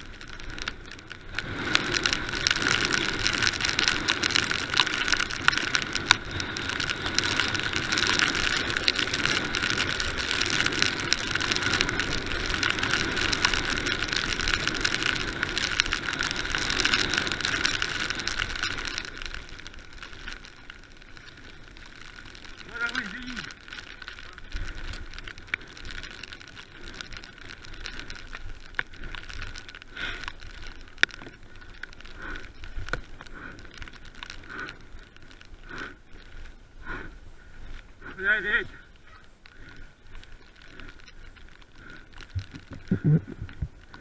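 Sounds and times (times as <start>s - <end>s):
mountain bike on gravel track: 0.0s - 44.0s.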